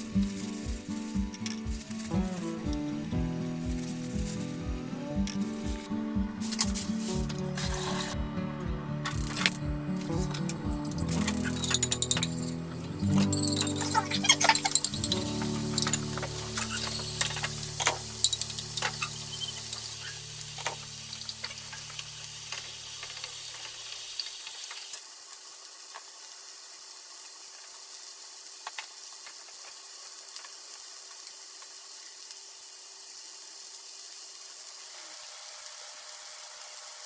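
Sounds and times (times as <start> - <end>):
chicken sizzling in oil: 0.0 - 8.2, 12.3 - 37.0.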